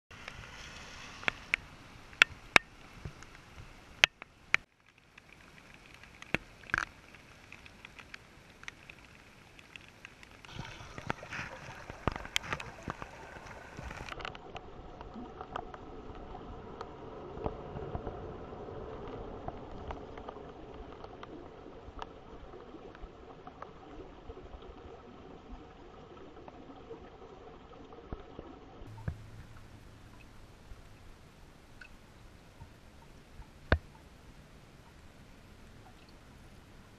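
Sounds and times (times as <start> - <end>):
water trickling and gurgling: 0.1 - 36.9.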